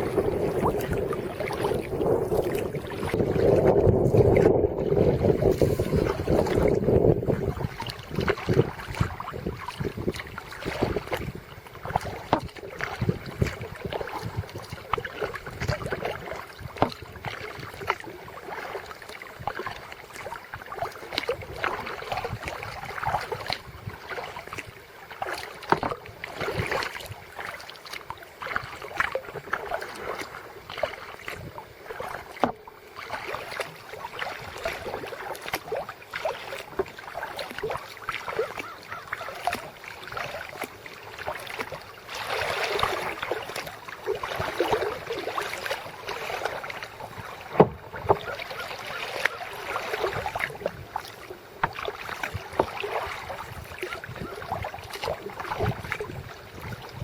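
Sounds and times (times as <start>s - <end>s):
paddle splashing and dripping: 0.0s - 57.0s
water lapping along hull: 0.0s - 57.0s.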